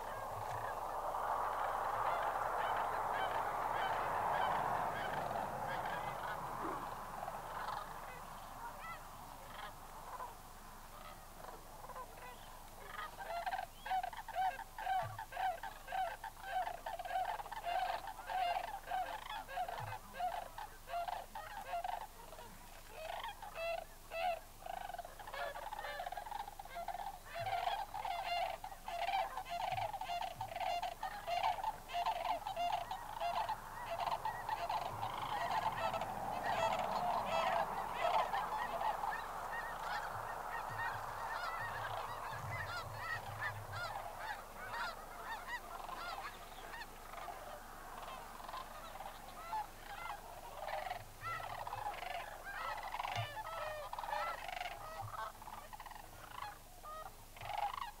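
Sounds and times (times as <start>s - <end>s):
cranes calling: 0.0s - 58.0s.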